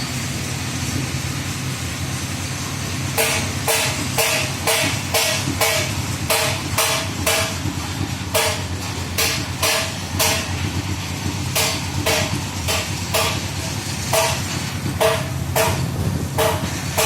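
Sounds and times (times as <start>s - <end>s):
hammer striking sheet metal: 3.1s - 17.0s.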